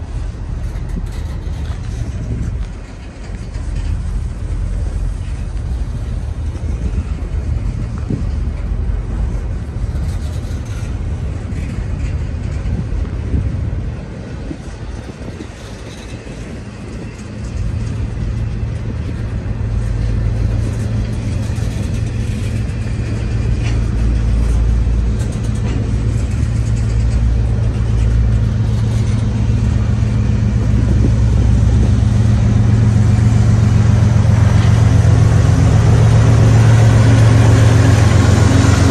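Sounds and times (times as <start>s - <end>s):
diesel locomotive droning: 0.0s - 38.9s
freight train rumbling on rails: 0.0s - 38.9s.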